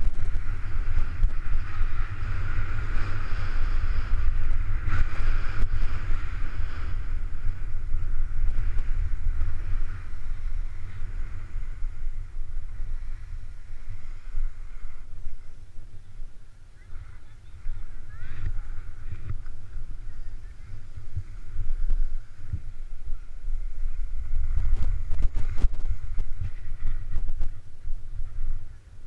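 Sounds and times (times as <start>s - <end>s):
skis sliding on packed snow: 0.0s - 16.3s, 16.9s - 28.7s
wind buffeting microphone: 0.0s - 29.0s.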